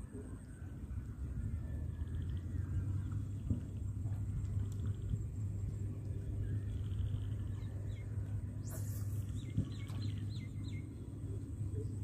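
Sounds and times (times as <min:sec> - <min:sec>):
low rumble: 0:00.0 - 0:12.0
small birds chirping: 0:00.3 - 0:12.0.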